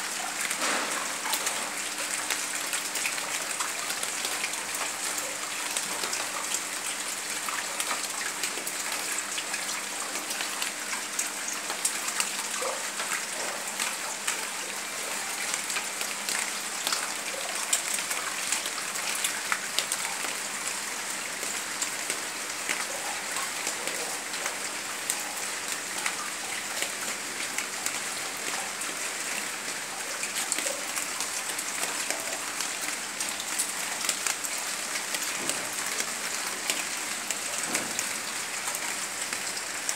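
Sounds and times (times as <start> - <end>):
raindrops ticking on surfaces: 0.0 - 39.9.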